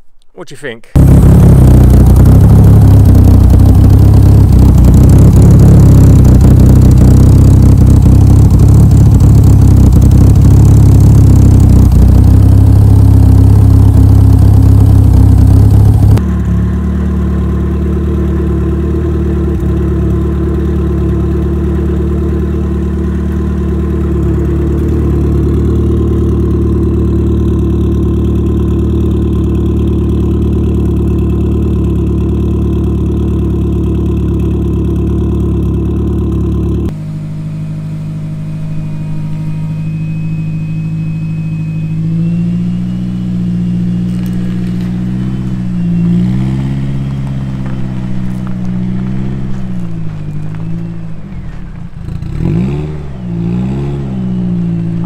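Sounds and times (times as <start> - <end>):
car engine idling at exhaust: 1.0 - 55.0.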